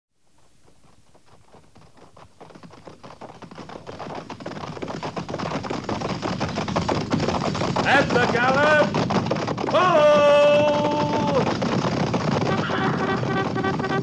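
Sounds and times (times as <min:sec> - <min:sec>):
rapid clatter of small knocks: 0:00.6 - 0:14.0.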